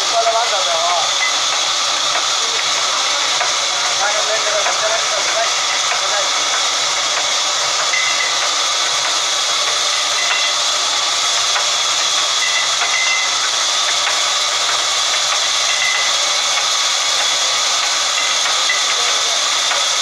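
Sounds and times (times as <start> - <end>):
band saw cutting log: 0.0 - 20.0.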